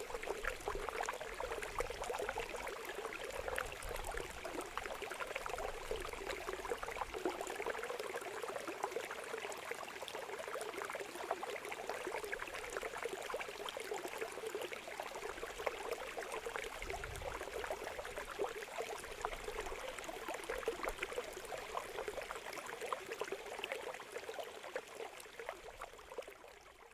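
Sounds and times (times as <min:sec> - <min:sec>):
water trickling and babbling: 0:00.0 - 0:26.9.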